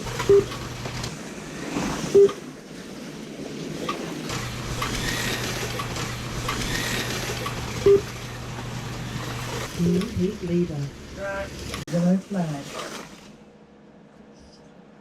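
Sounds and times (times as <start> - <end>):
slot car motors whirring: 0.0 - 13.4.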